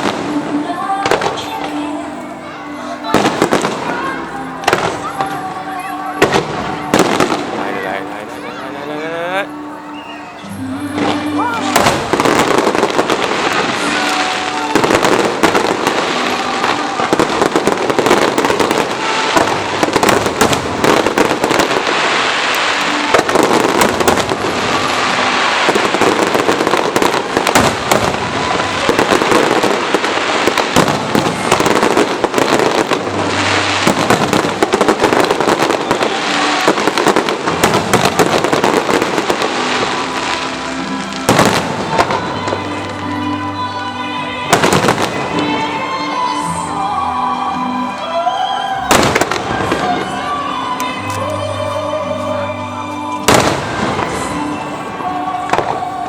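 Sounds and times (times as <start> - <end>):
fireworks bursting: 0.0 - 56.0
music playing: 0.0 - 56.0.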